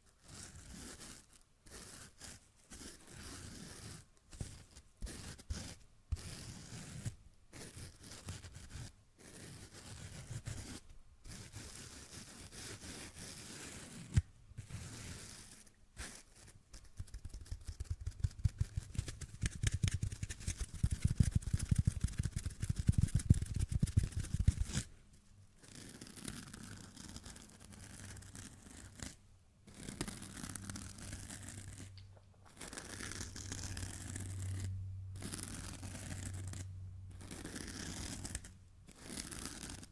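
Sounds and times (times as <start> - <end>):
fingernails scratching a sponge: 0.2 - 24.9, 25.6 - 31.9, 32.6 - 39.9.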